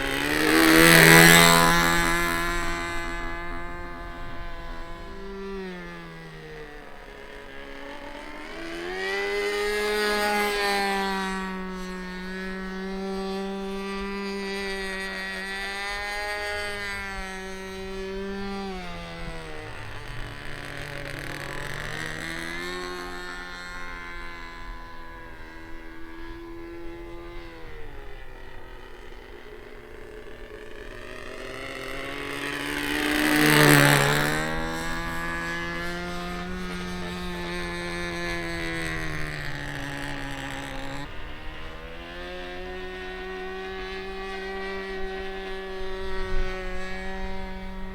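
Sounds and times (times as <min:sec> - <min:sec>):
model aircraft engine in flight: 0:00.0 - 0:47.9.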